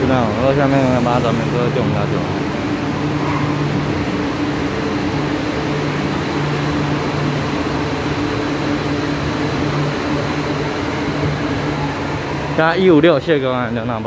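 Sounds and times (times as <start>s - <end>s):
train mechanical hum: 0.0s - 14.0s.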